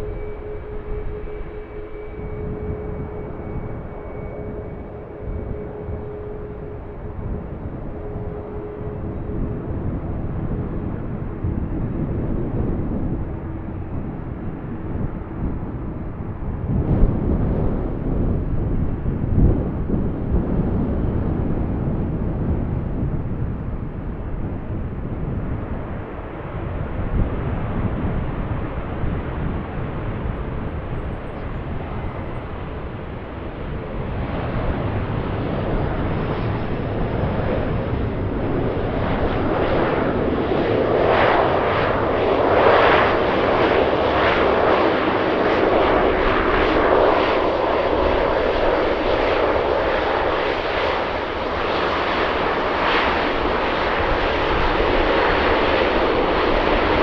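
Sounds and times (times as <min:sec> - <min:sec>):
turboprop plane approaching: 0:00.0 - 0:57.0.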